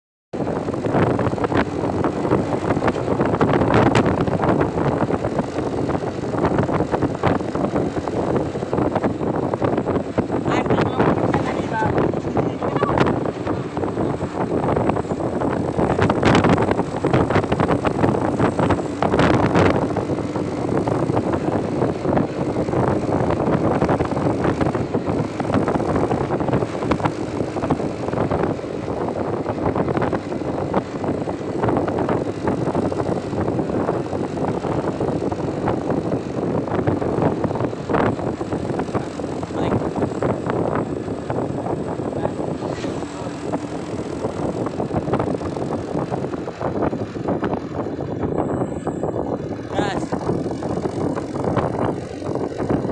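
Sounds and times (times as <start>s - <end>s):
road noise: 0.3s - 52.9s
truck engine droning: 0.3s - 52.9s.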